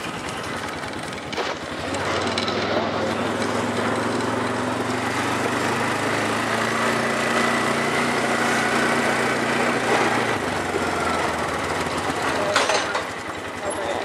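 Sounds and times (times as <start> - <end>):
small atv engine running: 0.0 - 14.0.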